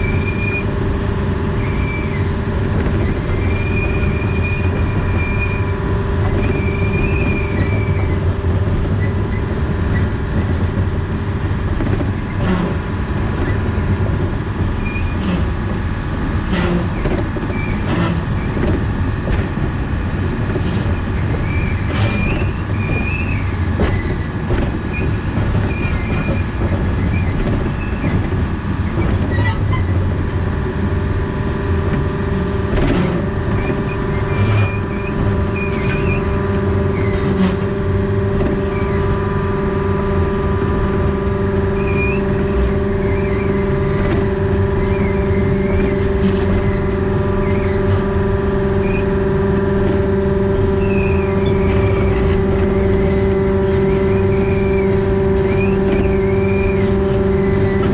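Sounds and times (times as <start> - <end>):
high wheel squeals: 0.0 - 57.9
locomotive diesel engine running: 0.0 - 57.9
wheel clicks over rail joints: 0.5 - 57.9.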